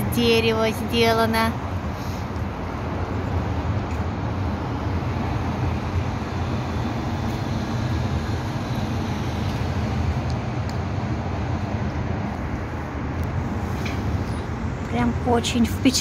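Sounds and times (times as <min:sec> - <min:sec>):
low urban background rumble: 0:00.0 - 0:16.0.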